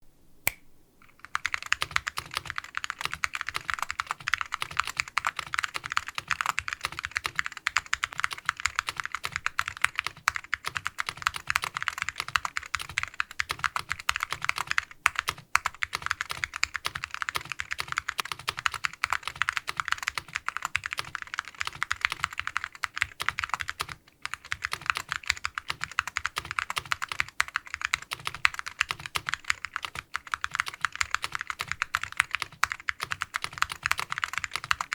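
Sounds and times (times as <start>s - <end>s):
fast typing on clicky keyboard: 1.1s - 34.9s.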